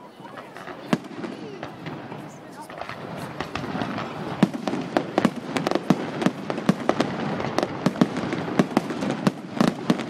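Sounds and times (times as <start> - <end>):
fireworks bangs: 0.2 - 10.0.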